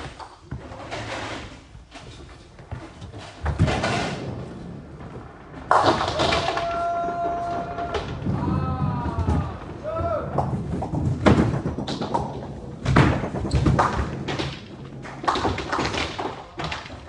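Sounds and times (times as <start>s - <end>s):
bowling balls rolling: 0.0s - 17.0s
bowling pins crashing: 2.6s - 17.0s.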